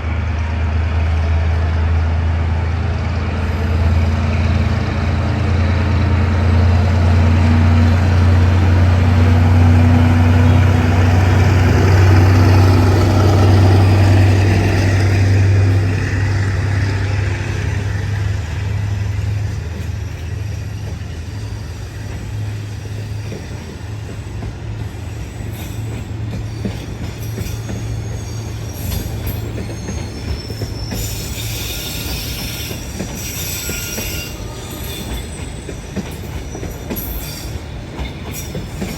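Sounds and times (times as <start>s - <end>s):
diesel locomotive engine: 0.0s - 38.9s
train carriages rolling: 3.3s - 38.9s
train wheel squeal: 3.4s - 38.9s.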